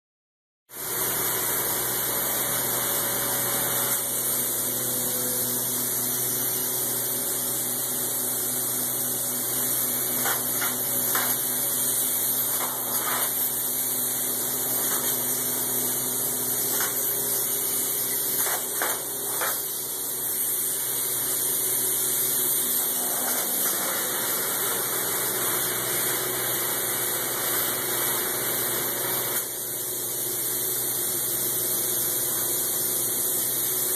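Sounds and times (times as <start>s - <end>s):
spray foam gun hissing: 0.8s - 33.9s.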